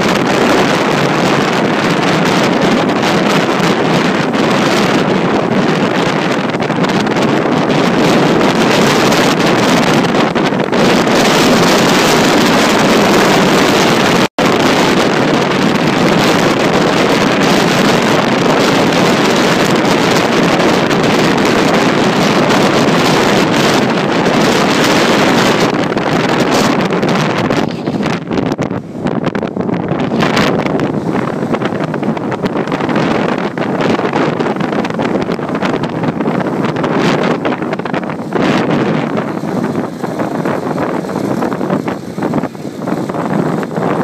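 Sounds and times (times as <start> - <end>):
road noise: 0.0 - 44.0
wind rushing over microphone: 0.0 - 44.0.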